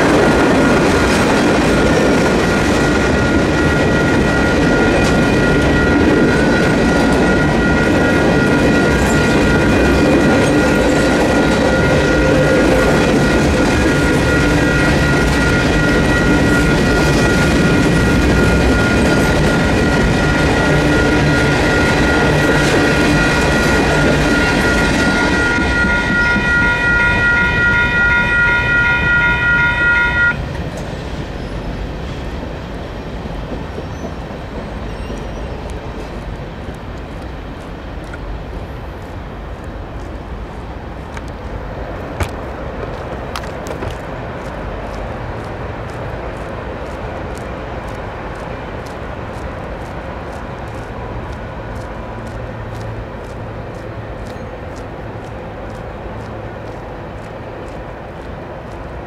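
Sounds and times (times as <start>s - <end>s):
freight cars rumbling: 0.0s - 59.0s.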